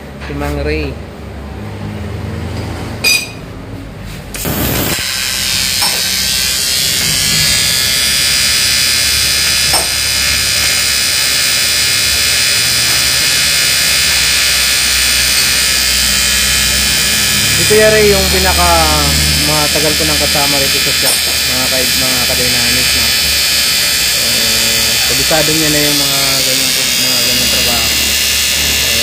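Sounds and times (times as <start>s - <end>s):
welding arc buzzing hiss: 4.1s - 29.0s.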